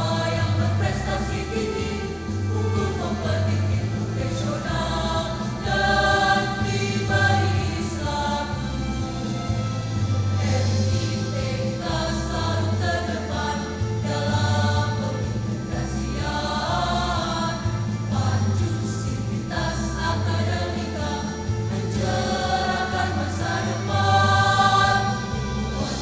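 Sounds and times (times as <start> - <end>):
women's choir singing: 0.0 - 26.0.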